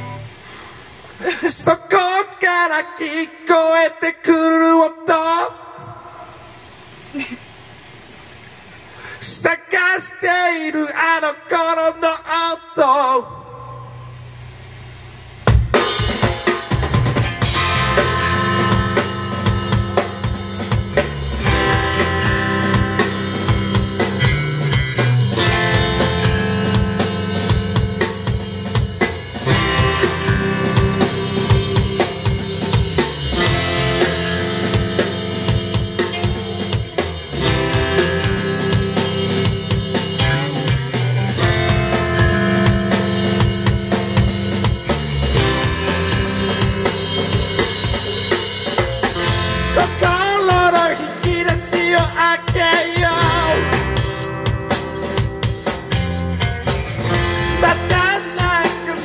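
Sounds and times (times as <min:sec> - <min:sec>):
rock band playing live: 0:00.0 - 0:04.4, 0:15.4 - 0:59.0.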